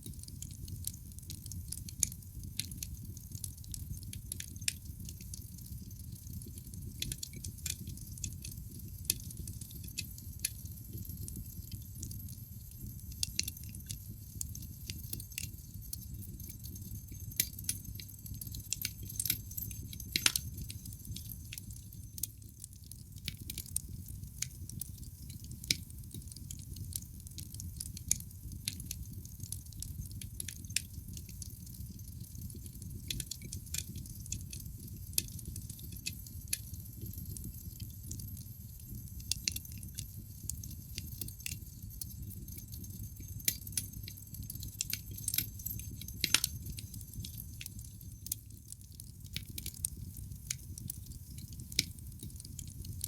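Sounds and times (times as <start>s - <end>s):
low rumble of flames: 0.0s - 53.0s
wood fire crackling and snapping: 0.0s - 53.0s.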